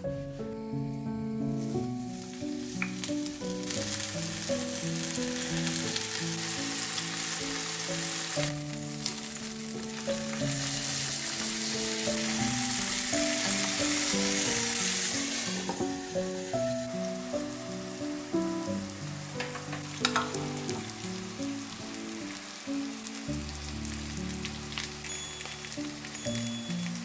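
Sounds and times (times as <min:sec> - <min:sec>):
background music: 0:00.0 - 0:27.0
food sizzling as it fries: 0:01.4 - 0:27.0.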